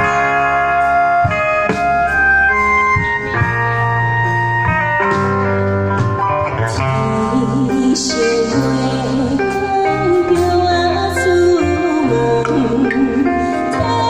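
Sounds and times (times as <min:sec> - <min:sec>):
live band playing instrumental: 0:00.0 - 0:14.0.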